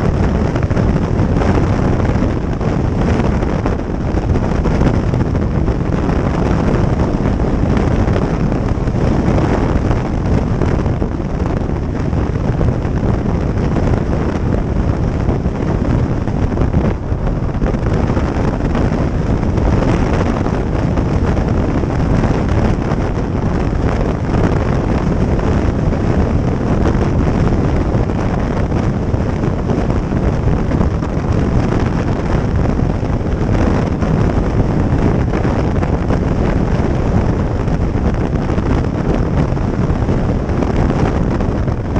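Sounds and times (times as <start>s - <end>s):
motorcycle running: 0.0s - 41.9s
road noise: 0.0s - 41.9s
wind rushing over microphone: 0.0s - 41.9s.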